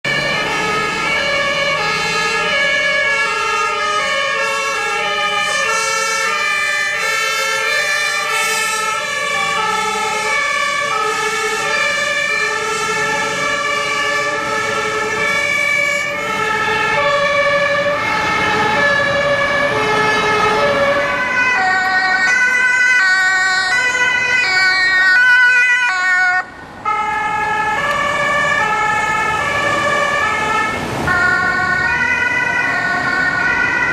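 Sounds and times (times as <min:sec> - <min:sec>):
two-tone emergency sirens: 0:00.0 - 0:33.9.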